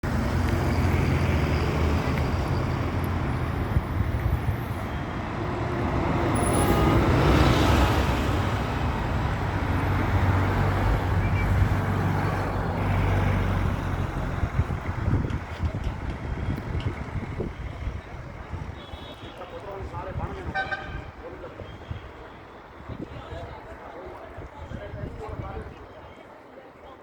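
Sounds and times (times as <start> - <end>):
traffic engine hum: 0.0 - 26.5
road noise: 0.0 - 27.0.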